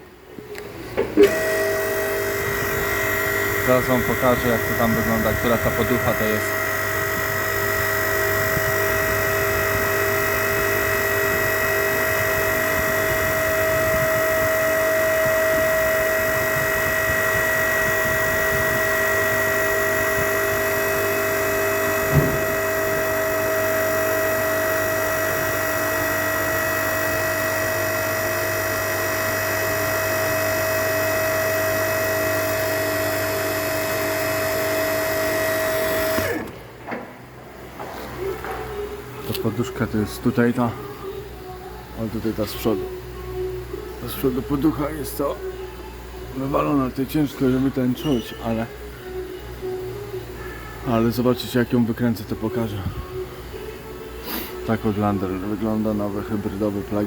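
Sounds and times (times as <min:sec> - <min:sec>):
steady machine whine: 0:00.0 - 0:57.0.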